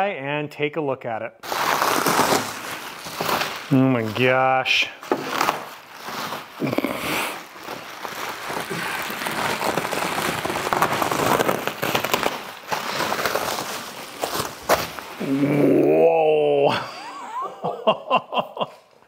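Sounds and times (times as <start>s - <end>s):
bubble wrap crinkling: 1.4s - 17.1s.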